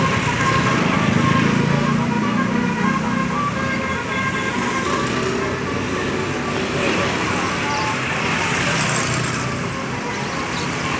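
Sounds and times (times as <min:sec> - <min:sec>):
road traffic: 0:00.0 - 0:10.9.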